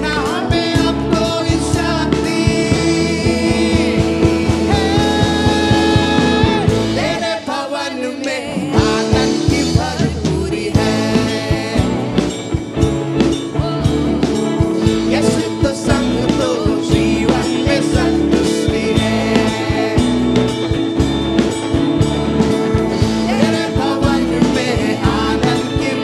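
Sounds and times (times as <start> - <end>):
worship band music with singing: 0.0 - 26.0.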